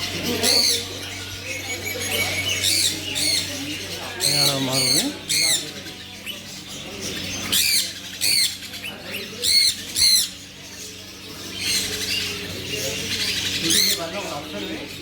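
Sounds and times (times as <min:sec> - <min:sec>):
bird squawking: 0:00.0 - 0:10.7, 0:11.3 - 0:14.7.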